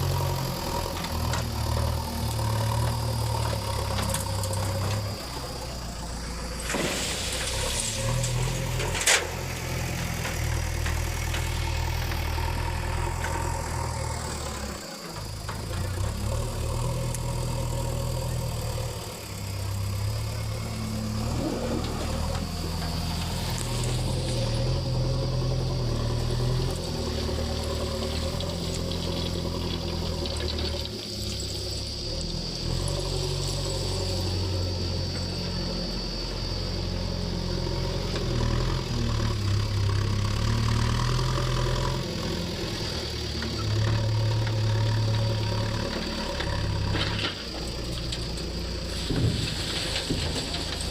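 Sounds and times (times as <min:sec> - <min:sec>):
backhoe diesel engine under load: 0:00.0 - 0:50.9.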